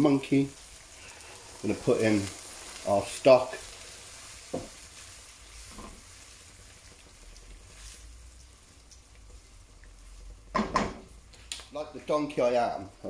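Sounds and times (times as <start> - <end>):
leeks sizzling faintly in a wok: 0.0 - 13.0.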